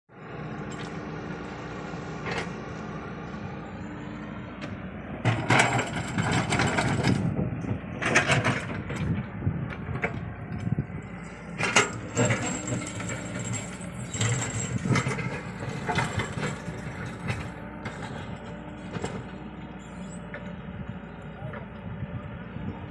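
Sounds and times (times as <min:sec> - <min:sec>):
excavator engine running: 0:00.2 - 0:22.9.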